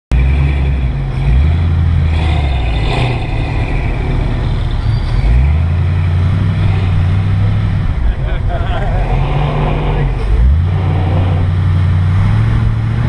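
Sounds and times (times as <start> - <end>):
car engine rumbling: 0.1 - 13.0.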